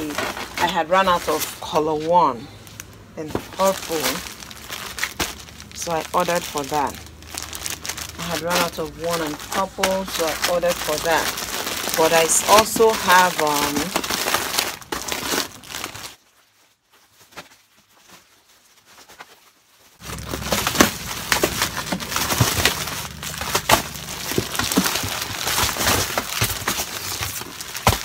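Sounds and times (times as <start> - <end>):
plastic-wrapped packs crinkling: 2.6 - 28.0.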